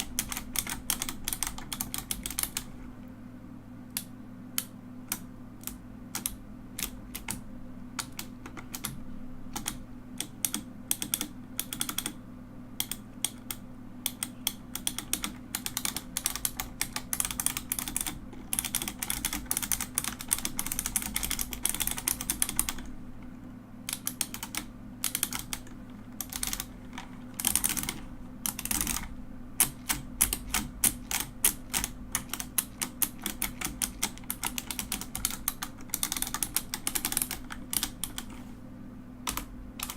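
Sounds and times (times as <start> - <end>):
mechanical keyboard keys clacking: 0.0 - 2.7, 5.1 - 7.4, 8.0 - 9.0, 9.6 - 12.2, 12.8 - 22.9, 23.9 - 38.4, 39.2 - 39.9
steady low hum: 0.0 - 39.9.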